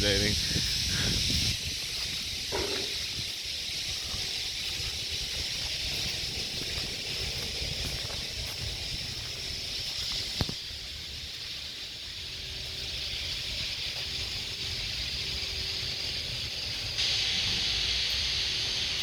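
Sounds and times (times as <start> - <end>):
steady high hiss: 0.0 - 19.0
wind rumbling on microphone: 0.0 - 19.0.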